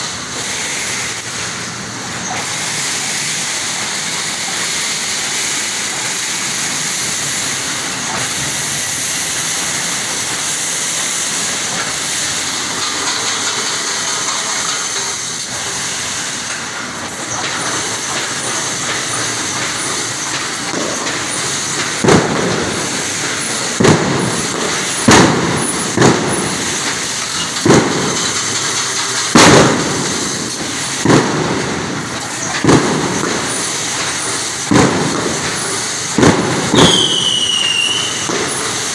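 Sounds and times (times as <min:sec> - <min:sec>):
machine mechanical hiss: 0:00.0 - 0:38.9
welding press bangs: 0:03.6 - 0:38.9.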